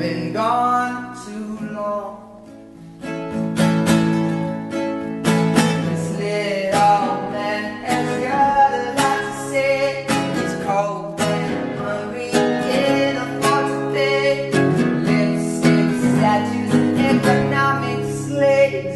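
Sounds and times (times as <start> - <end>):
person singing: 0.0 - 2.6, 5.3 - 18.9
strummed acoustic guitar: 0.0 - 18.9.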